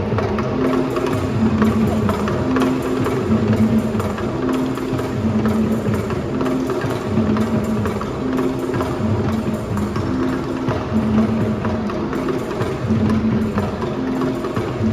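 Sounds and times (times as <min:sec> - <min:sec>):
drum and percussion strikes: 0:00.0 - 0:14.9.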